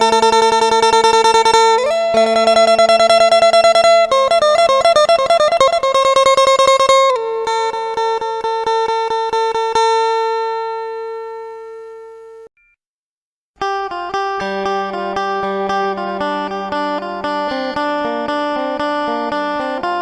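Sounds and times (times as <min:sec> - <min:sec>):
plucked lute melody over drone: 0:00.0 - 0:11.8, 0:13.6 - 0:20.0.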